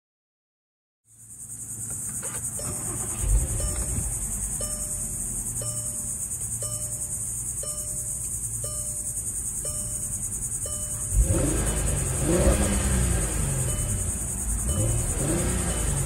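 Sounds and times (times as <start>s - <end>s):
high-pitched insect buzz: 1.1s - 16.0s
car engine idling: 1.2s - 16.0s
warning chime: 2.6s - 16.0s.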